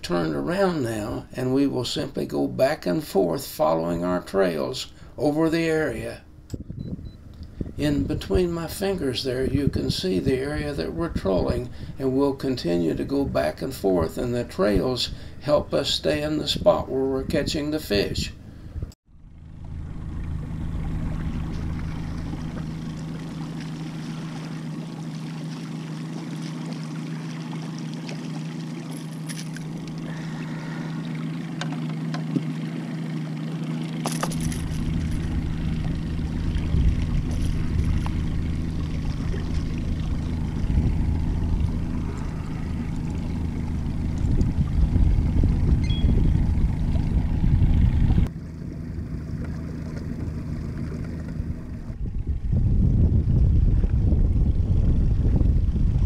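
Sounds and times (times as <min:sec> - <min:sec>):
boat motor humming: 0:00.0 - 0:56.0.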